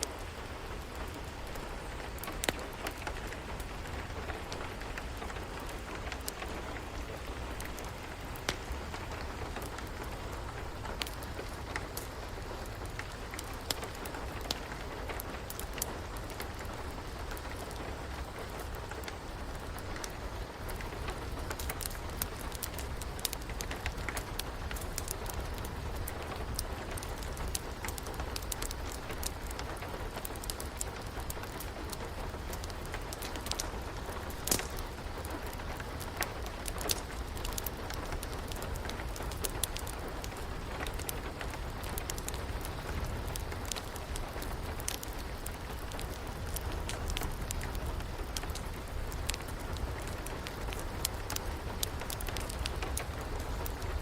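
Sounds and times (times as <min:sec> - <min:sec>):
rain rushing: 0:00.0 - 0:54.0
wood fire crackling: 0:00.0 - 0:54.0.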